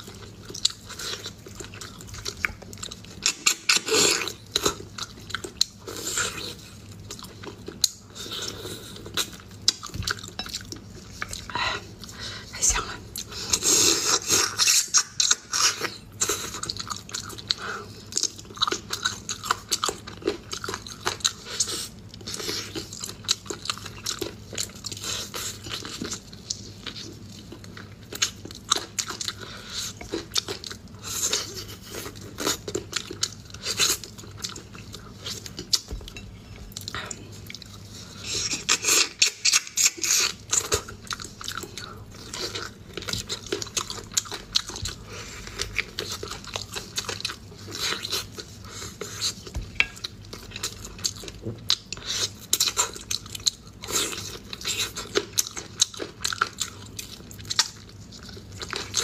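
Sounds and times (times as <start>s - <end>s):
chewing and biting ribs: 0.0s - 59.0s.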